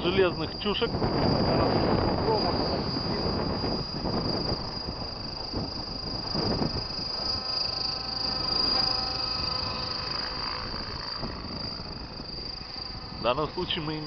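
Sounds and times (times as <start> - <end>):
model helicopter whining: 0.0 - 14.0
wind on microphone: 0.0 - 14.0.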